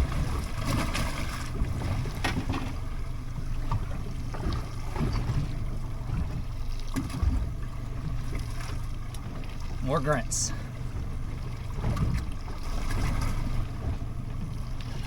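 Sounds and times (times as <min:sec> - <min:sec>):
water sloshing against boat hull: 0:00.0 - 0:15.0.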